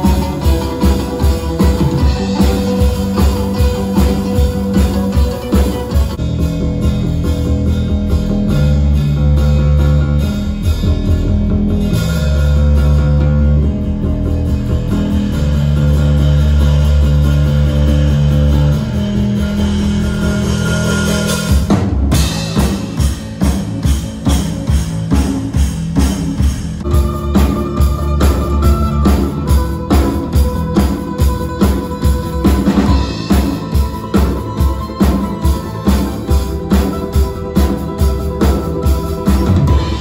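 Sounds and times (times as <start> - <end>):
guitar bass and drums music: 0.0 - 40.0.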